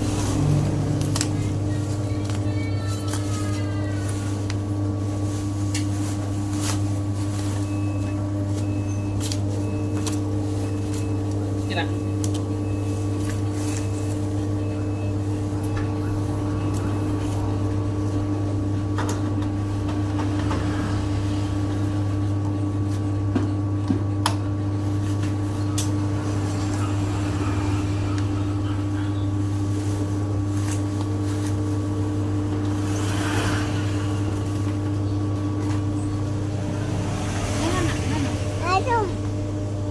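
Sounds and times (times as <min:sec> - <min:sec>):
electric dough mixer humming: 0:00.0 - 0:39.9.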